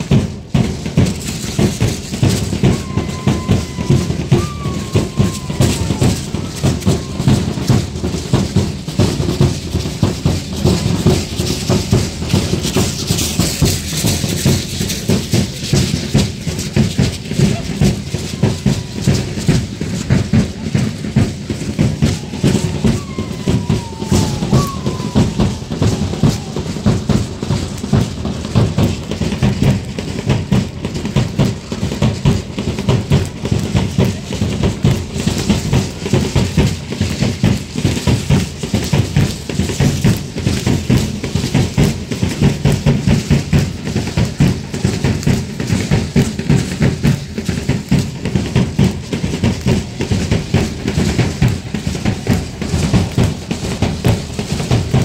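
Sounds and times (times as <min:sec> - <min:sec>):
drums beating dance rhythm: 0:00.0 - 0:55.0.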